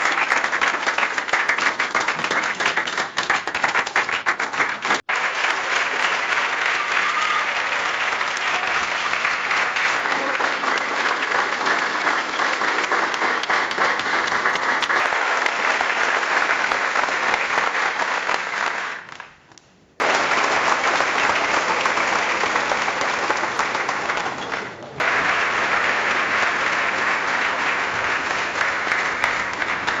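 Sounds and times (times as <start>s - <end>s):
crowd applause: 0.0s - 19.3s, 20.0s - 30.0s.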